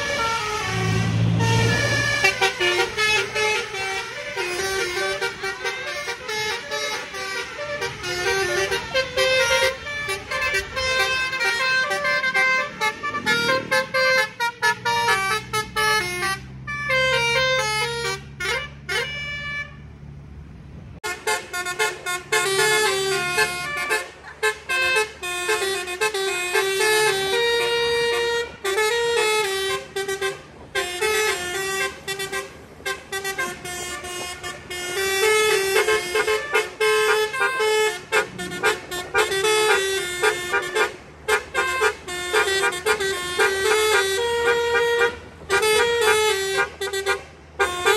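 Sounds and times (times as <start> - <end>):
musical horns playing melody: 0.0 - 19.8, 21.0 - 47.9.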